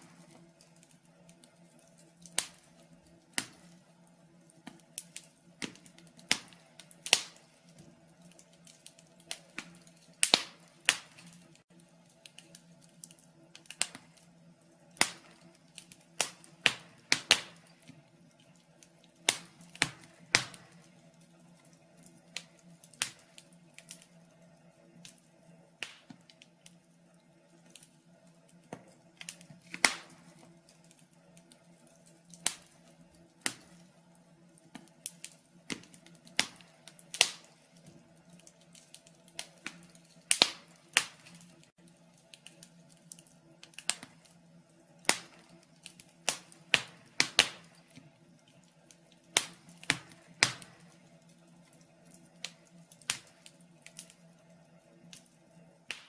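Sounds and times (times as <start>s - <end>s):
faint steady hum: 0.0s - 56.0s
wood fire crackling: 0.0s - 56.0s.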